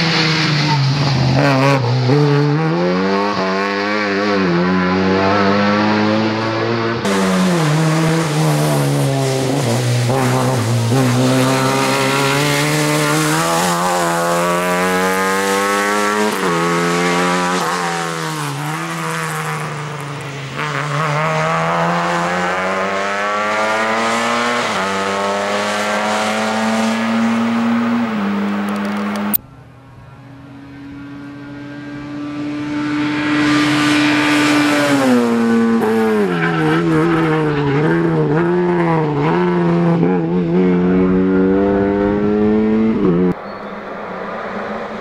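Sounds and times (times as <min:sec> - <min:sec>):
rally car engine revving: 0:00.0 - 0:29.4, 0:30.7 - 0:45.0.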